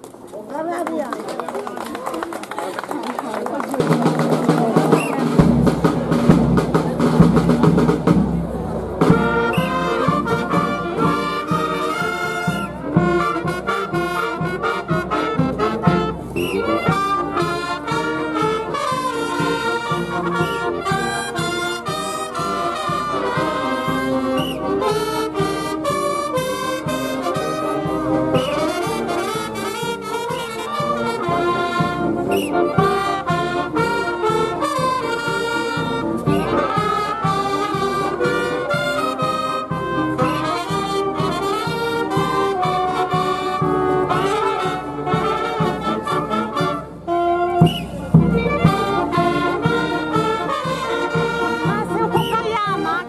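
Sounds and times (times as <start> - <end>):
steady drum beats: 3.5 - 53.0
brass instruments playing melody: 3.8 - 53.0.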